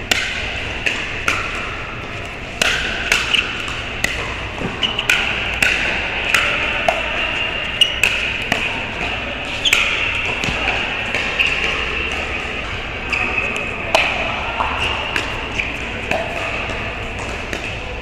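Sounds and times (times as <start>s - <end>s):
paddles hitting plastic ball: 0.0s - 12.8s, 13.9s - 17.9s
busy indoor court hall din: 0.0s - 18.0s.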